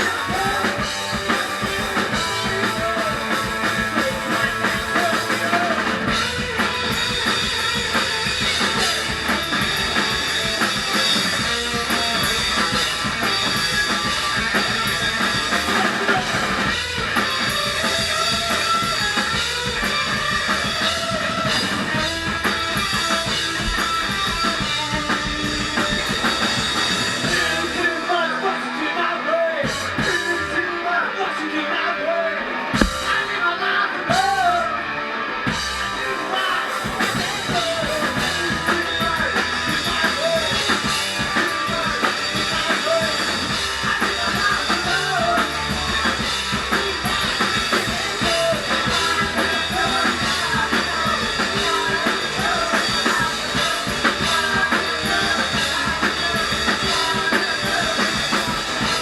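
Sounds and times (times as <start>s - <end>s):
driving drum kit: 0.0s - 28.8s, 29.5s - 30.9s, 32.7s - 34.8s, 35.4s - 59.0s
bass guitar: 0.0s - 59.0s
loud electric guitars: 0.0s - 59.0s.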